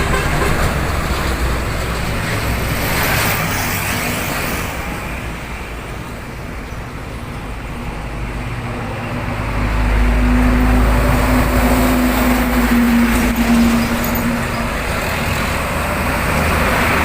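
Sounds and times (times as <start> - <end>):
passing motorcycles and cars: 0.5 - 17.0.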